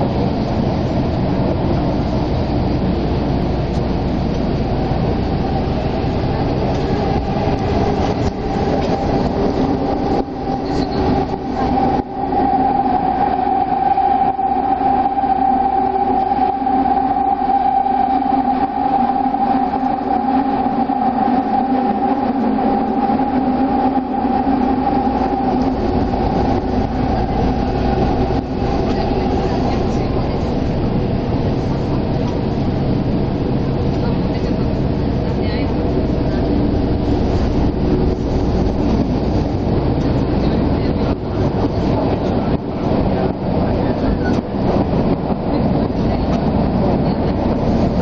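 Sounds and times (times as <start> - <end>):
constant high hum: 0.0 - 48.0
subway train rumbling in tunnel: 0.0 - 48.0.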